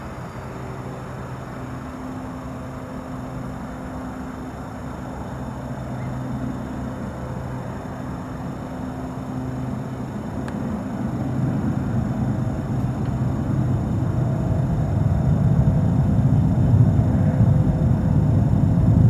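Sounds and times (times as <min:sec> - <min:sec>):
turboprop aircraft hum: 0:00.0 - 0:19.0.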